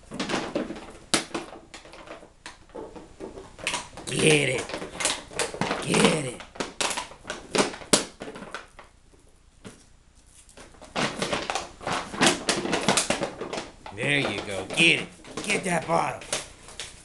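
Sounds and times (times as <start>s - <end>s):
dog chewing plastic bottle: 0.0s - 9.0s, 10.5s - 17.0s.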